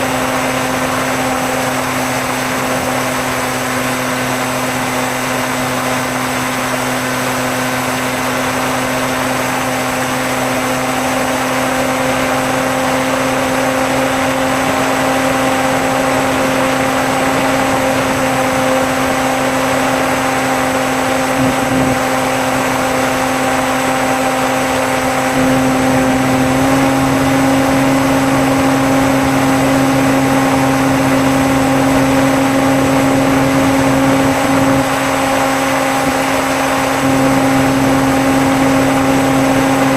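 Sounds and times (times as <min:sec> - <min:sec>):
model plane propeller droning: 0:00.0 - 0:39.9.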